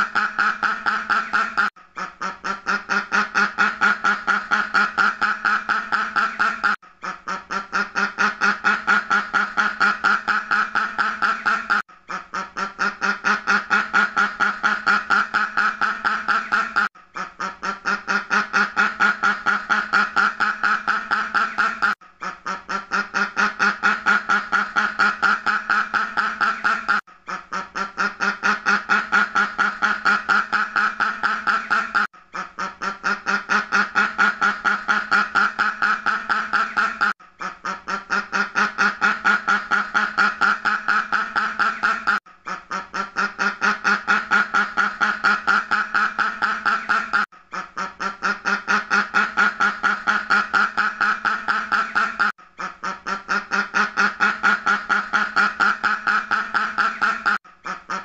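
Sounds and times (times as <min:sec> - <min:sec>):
duck quacking: 0:00.0 - 0:58.0.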